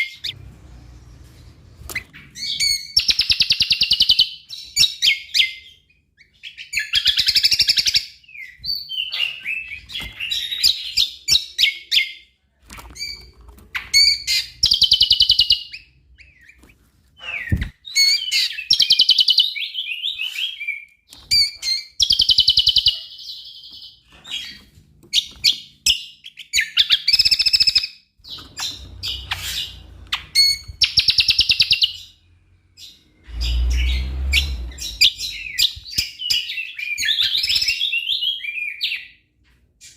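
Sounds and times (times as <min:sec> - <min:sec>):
songbird chirping and whistling: 0:01.8 - 0:12.3, 0:13.0 - 0:32.2, 0:32.8 - 0:39.2.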